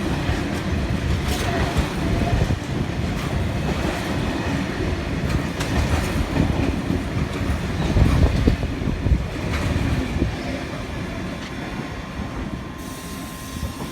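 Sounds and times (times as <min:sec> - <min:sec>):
train wheels rumbling: 0:00.0 - 0:13.9.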